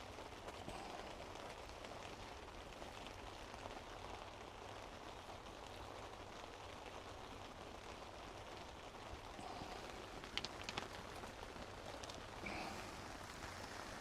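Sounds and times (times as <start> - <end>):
light rain on a tarp: 0.0 - 14.0.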